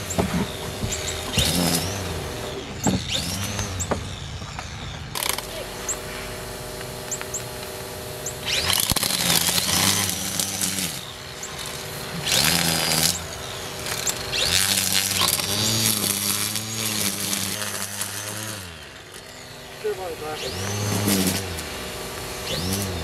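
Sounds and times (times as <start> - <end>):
string trimmer motors whining: 0.0 - 23.0
trimmer line cutting grass: 0.0 - 23.0.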